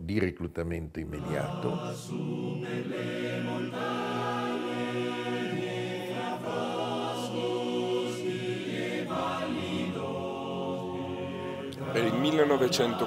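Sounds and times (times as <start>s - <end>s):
choir singing slow chords: 1.2s - 13.0s.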